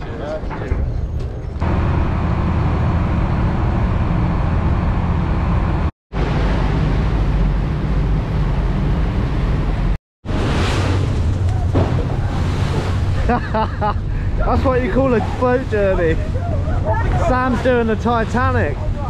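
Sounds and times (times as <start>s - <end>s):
boat engine droning: 1.6s - 19.0s.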